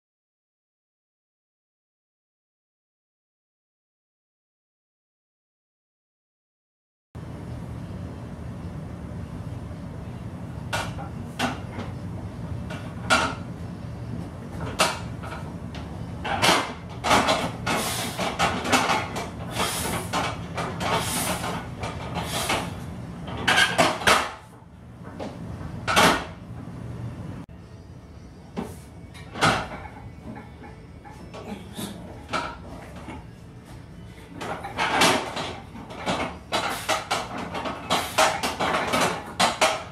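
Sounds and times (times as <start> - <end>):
steady low hum: 7.2 - 39.9.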